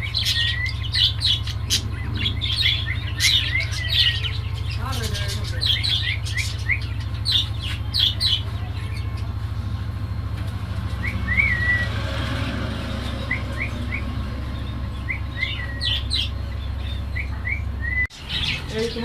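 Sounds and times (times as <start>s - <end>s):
low hum: 0.0s - 18.6s
small birds chirping: 0.0s - 19.0s.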